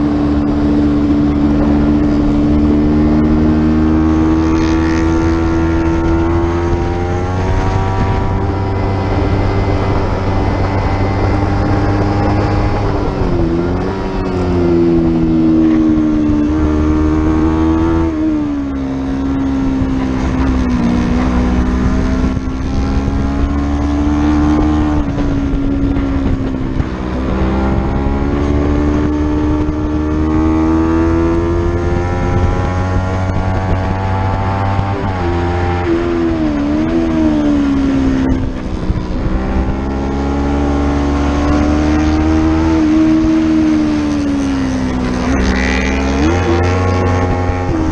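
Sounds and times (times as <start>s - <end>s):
motorcycle engine revving: 0.0s - 47.9s
wind rush: 0.0s - 47.9s.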